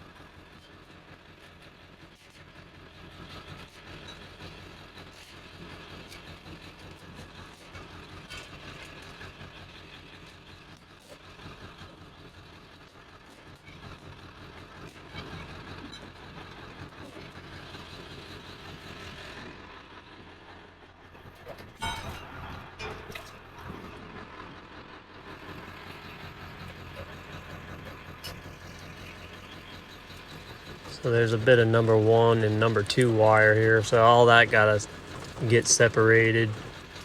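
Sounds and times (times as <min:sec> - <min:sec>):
low engine-like hum: 0:00.0 - 0:37.0.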